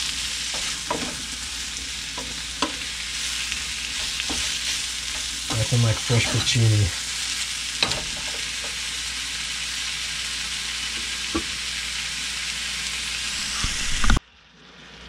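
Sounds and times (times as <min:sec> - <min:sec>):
mushrooms sizzling in a frying pan: 0:00.0 - 0:15.0.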